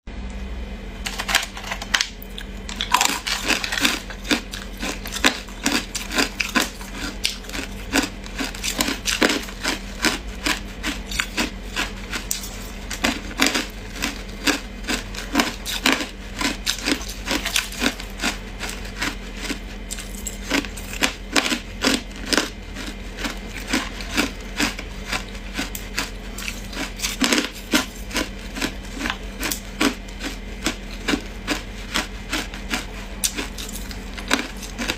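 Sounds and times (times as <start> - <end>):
ice crunching being chewed: 1.1 - 34.9.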